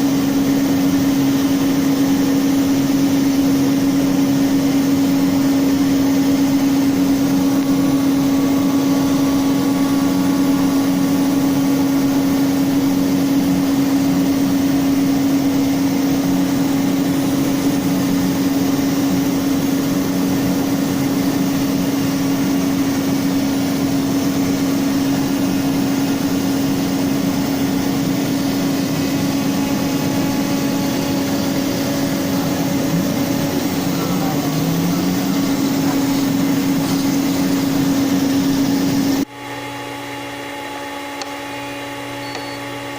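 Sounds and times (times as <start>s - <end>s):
router spindle high hum: 0.0s - 42.9s
wood cutting noise: 0.0s - 42.9s.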